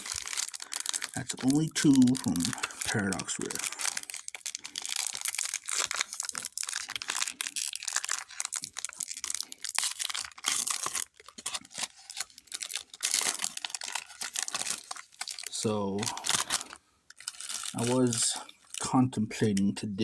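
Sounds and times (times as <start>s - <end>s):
foil wrapper crinkling and tearing: 0.0s - 19.8s.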